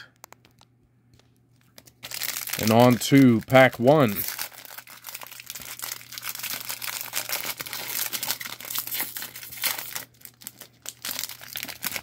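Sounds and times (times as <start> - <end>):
card pack wrapper tearing: 1.8 - 12.0.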